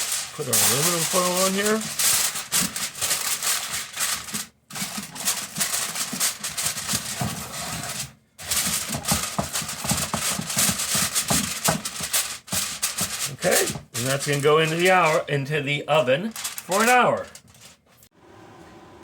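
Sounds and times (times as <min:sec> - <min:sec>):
aluminum foil crinkling: 0:00.0 - 0:18.1.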